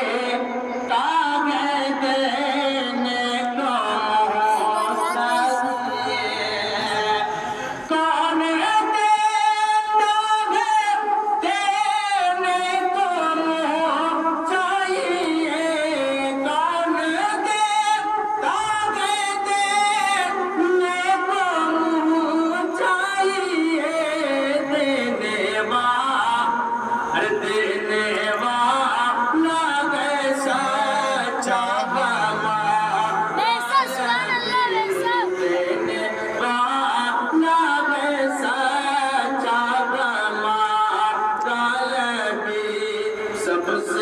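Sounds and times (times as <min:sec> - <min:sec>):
person singing devotional song: 0:00.0 - 0:44.0.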